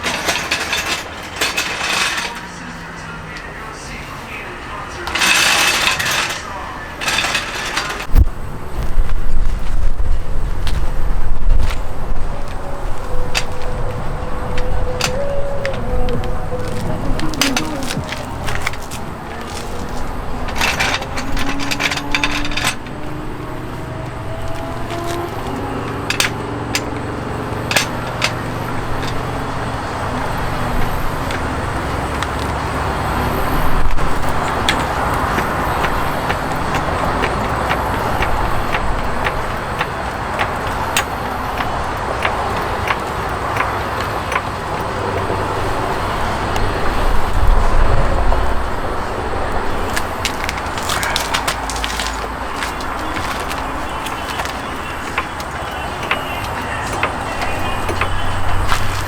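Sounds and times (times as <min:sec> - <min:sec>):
vehicle engine rumble with road noise: 0:00.0 - 0:59.0.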